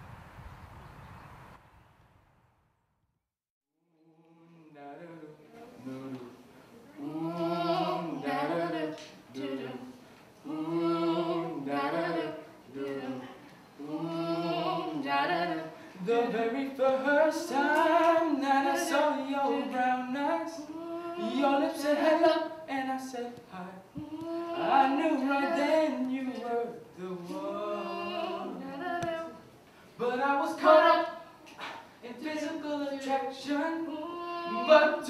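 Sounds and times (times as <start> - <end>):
group singing a cappella: 4.0 - 35.0.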